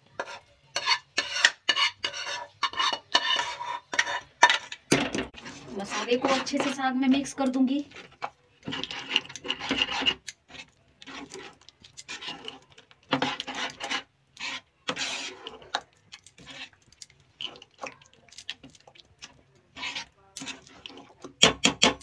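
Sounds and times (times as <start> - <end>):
spatula scraping thick paste in pan: 0.0 - 22.0.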